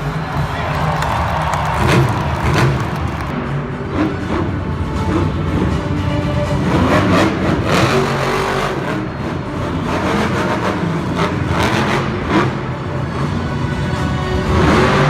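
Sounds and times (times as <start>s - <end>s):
arena music: 0.0s - 15.0s
monster truck engine revving: 0.0s - 15.0s.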